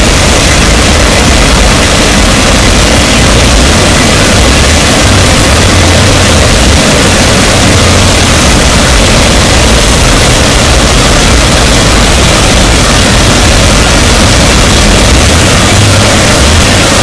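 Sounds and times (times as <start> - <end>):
harsh noise wall: 0.0 - 17.0.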